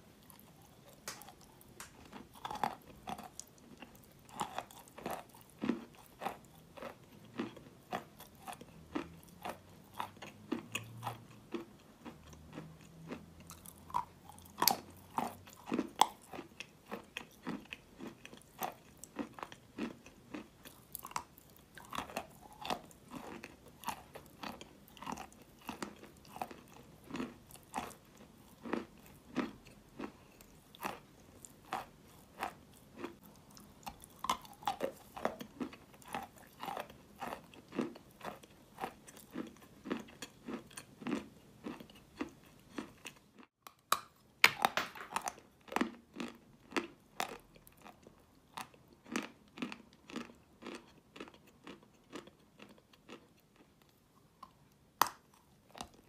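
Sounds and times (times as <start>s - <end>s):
person chewing chalk crunches: 0.2s - 56.0s.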